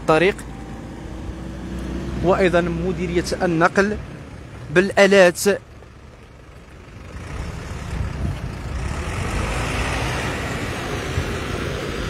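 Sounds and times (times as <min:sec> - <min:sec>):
wheel loader diesel engine rumbling: 0:00.0 - 0:12.0.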